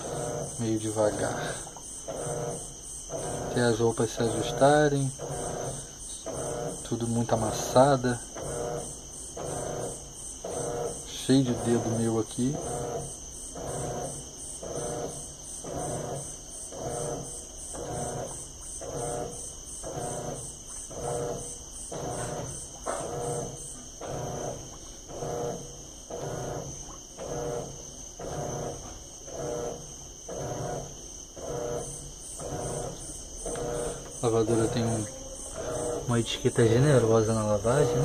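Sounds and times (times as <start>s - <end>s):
washing machine sloshing: 0.0s - 38.0s.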